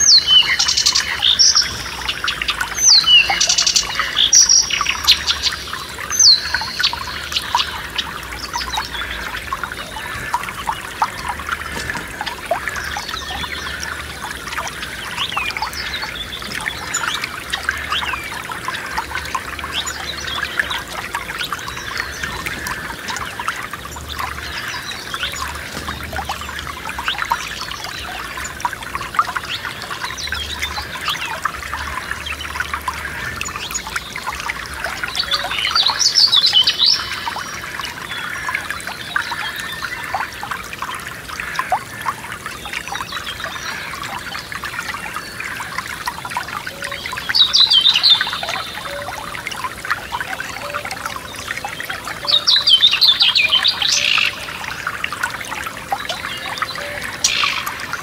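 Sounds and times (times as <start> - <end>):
songbird singing: 0.0 - 58.0
stream trickling: 0.0 - 58.0.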